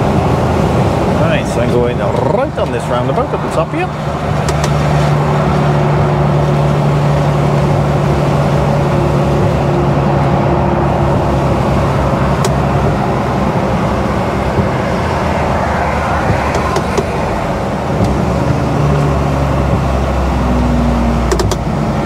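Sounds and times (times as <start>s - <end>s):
truck engine humming: 0.0s - 22.0s
tyre noise on wet road: 0.0s - 22.0s
windscreen wiper clicks: 0.1s - 10.1s, 10.9s - 22.0s.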